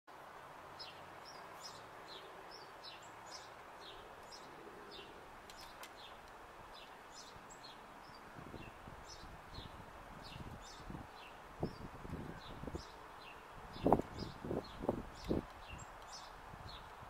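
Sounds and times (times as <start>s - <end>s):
faint steady hiss: 0.1s - 17.0s
small birds chirping: 0.8s - 17.0s.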